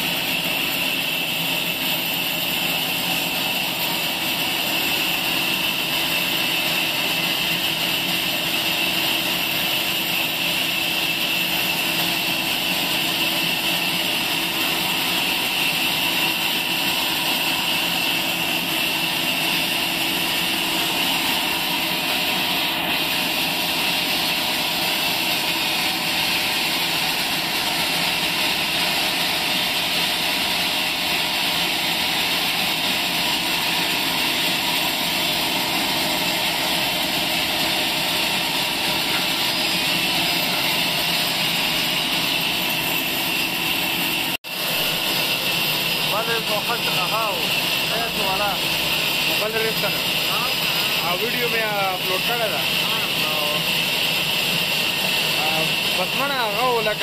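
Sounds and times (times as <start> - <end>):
band sawmill sawing log: 0.0 - 57.0.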